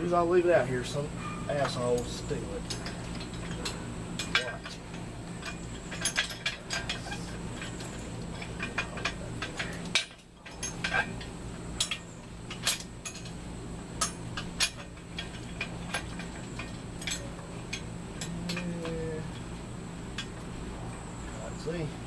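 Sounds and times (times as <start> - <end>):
steady low hum: 0.0 - 22.0
hand tools clinking on metal: 0.1 - 13.4, 14.0 - 20.4.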